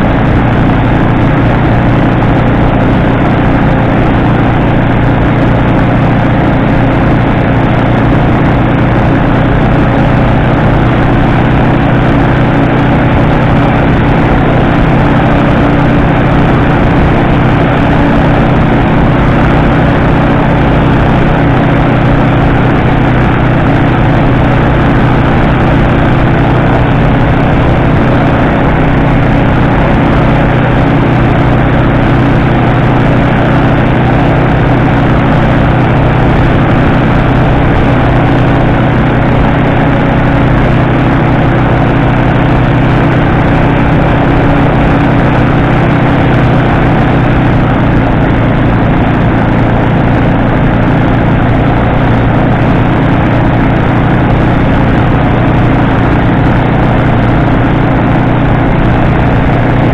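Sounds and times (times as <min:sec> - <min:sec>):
microlight engine and propeller drone: 0:00.0 - 0:59.9.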